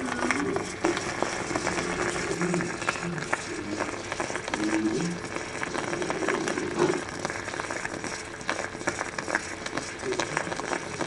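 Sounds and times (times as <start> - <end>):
moka pot gurgling and sputtering: 0.0 - 11.0.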